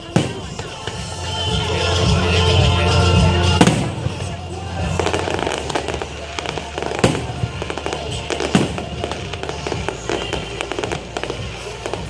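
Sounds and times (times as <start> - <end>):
fireworks bangs and crackles: 0.0 - 12.0
music playing: 0.0 - 12.0.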